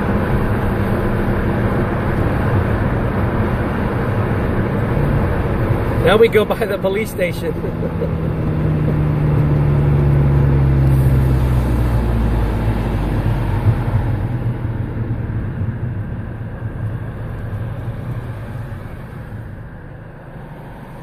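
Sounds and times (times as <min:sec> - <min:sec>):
car engine from inside: 0:00.0 - 0:21.0
road noise: 0:00.0 - 0:21.0.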